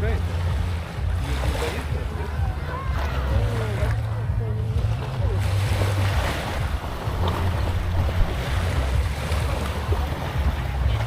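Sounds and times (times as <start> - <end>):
waves washing on beach: 0.0 - 11.0
wind buffeting microphone: 0.0 - 11.0.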